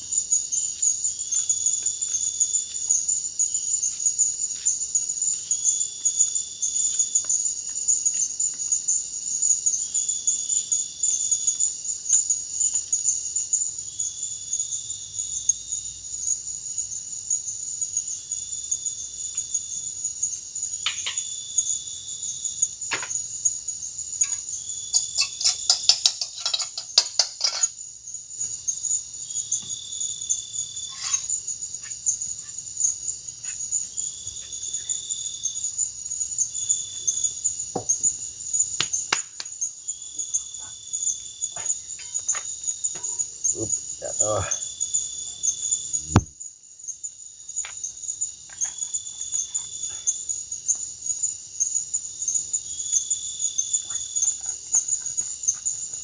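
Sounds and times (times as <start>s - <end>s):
crickets and insects chirring: 0.0s - 56.0s.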